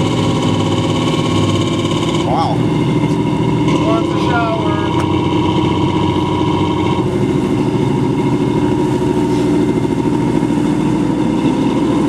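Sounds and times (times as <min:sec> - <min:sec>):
boat engine running: 0:00.0 - 0:12.0
propeller churning water: 0:00.0 - 0:12.0.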